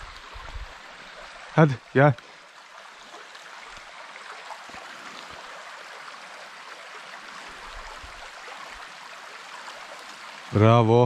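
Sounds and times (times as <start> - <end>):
stream running water: 0.0 - 11.0.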